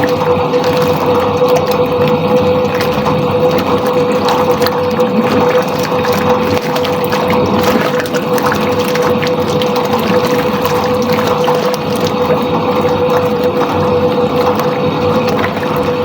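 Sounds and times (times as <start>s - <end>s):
washing machine motor hum: 0.0s - 16.0s
water churning and sloshing: 0.0s - 16.0s.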